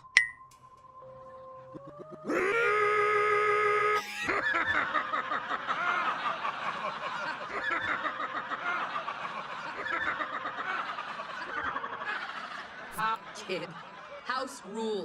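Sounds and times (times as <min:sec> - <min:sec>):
crowd laughing and jeering: 0:01.7 - 0:15.0.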